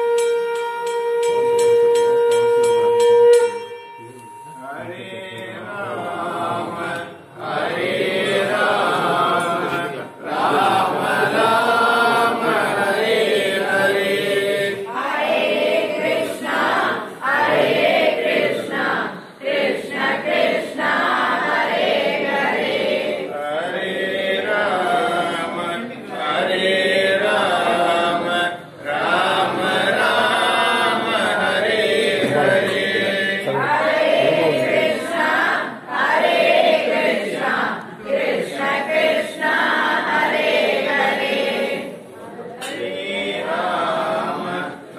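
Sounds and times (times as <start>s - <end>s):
group chanting verses: 4.6s - 44.9s.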